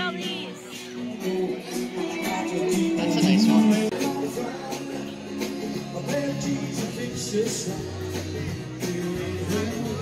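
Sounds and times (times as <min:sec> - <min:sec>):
music with steady beat and bass line: 0:00.0 - 0:10.0.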